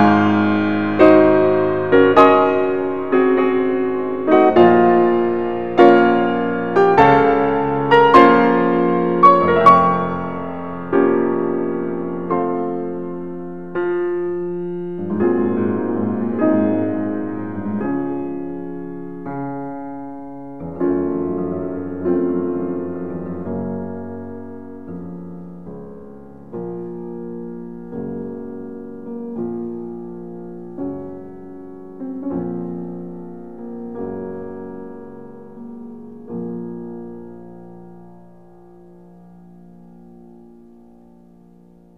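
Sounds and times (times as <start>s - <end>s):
slow solo piano chords: 0.0s - 41.9s.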